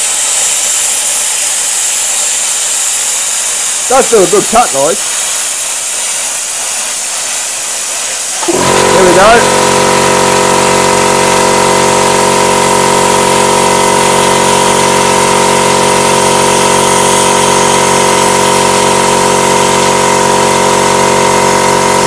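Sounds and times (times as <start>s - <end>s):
air compressor running: 0.0s - 22.0s
plasma cutter air jet hiss: 0.0s - 22.0s.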